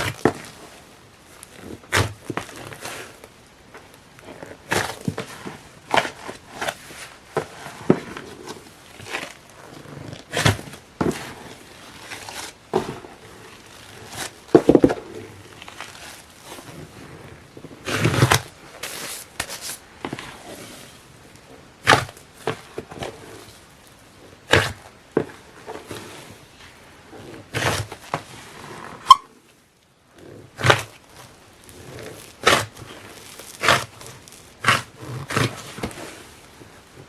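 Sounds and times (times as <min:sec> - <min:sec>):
slime kneaded by hand: 0:00.0 - 0:29.2, 0:30.2 - 0:37.0.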